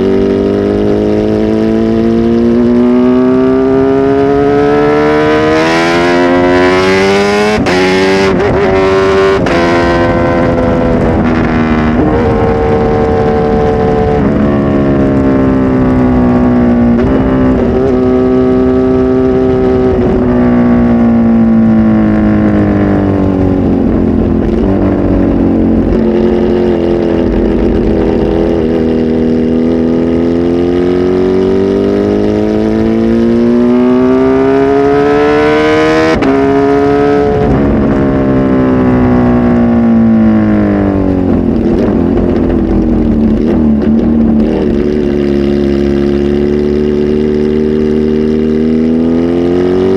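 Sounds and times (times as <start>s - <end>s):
motorcycle engine running loudly: 0.0s - 49.9s.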